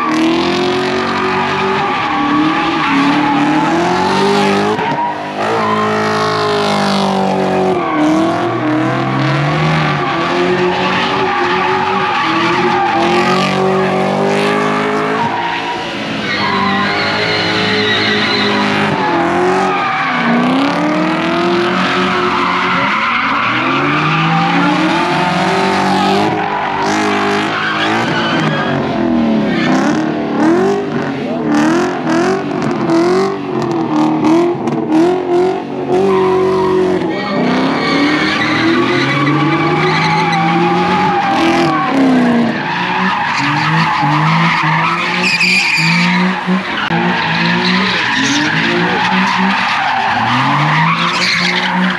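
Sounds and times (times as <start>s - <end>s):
car engines revving hard: 0.0s - 51.9s
tires squealing: 0.0s - 51.9s.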